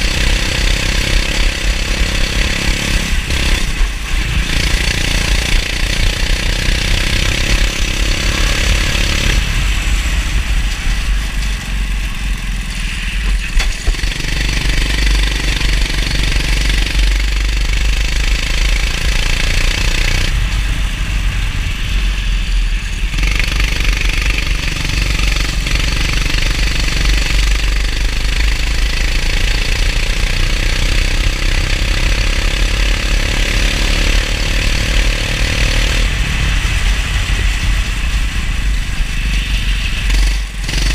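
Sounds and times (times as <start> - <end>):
kart engine revving: 0.0 - 22.1, 22.8 - 40.9.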